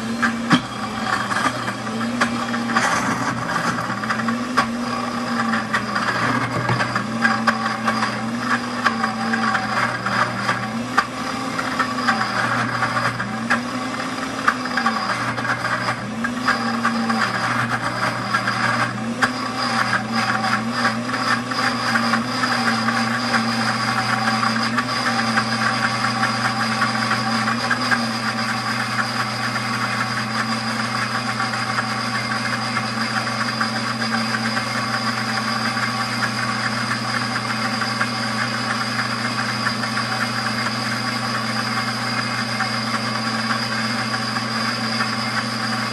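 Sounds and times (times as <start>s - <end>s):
blender motor grinding peanuts: 0.0s - 45.9s.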